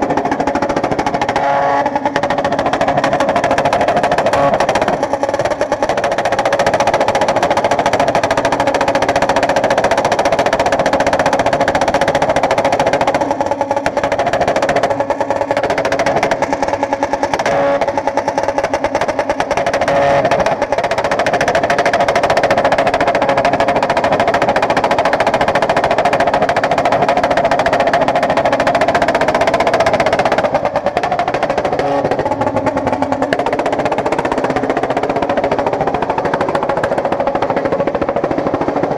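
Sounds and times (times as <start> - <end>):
motorcycle engine at rev limiter: 0.0 - 38.9.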